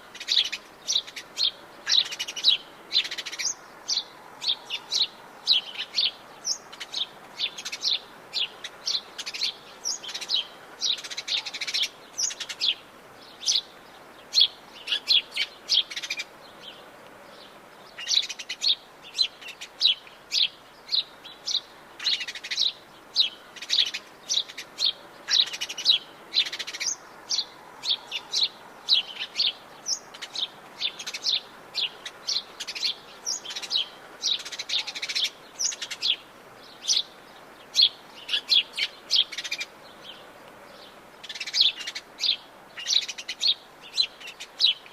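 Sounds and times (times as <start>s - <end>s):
wild birds chirping: 0.0s - 44.9s.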